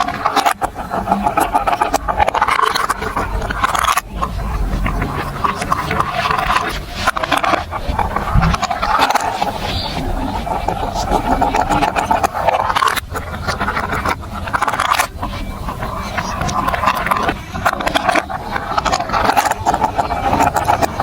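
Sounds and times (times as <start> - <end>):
marbles rolling on plastic tracks: 0.0 - 21.0.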